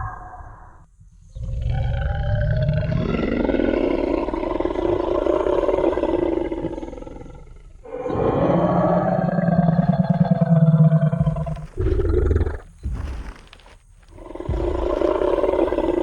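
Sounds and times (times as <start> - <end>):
dinosaur roar: 1.4 - 12.8, 14.1 - 16.0.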